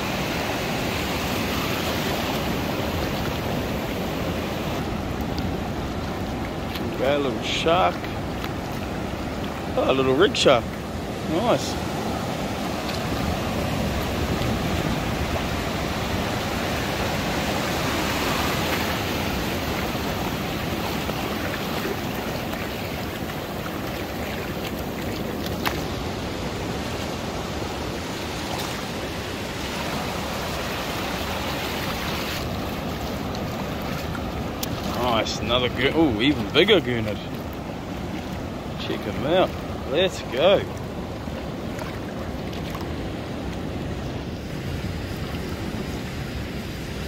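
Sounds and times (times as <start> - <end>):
surf washing over sand: 0.0 - 47.0.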